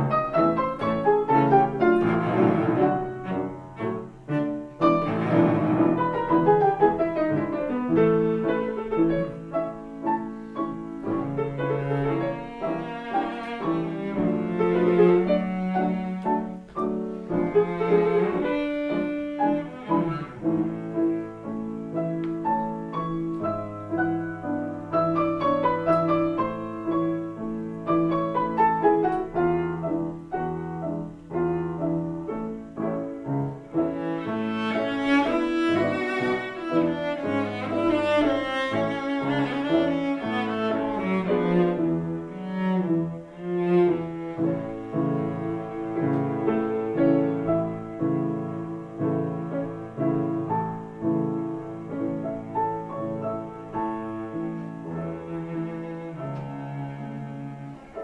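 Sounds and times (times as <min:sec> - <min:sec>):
cello long bowed notes: 0:00.0 - 0:58.0
piano playing: 0:00.0 - 0:58.0.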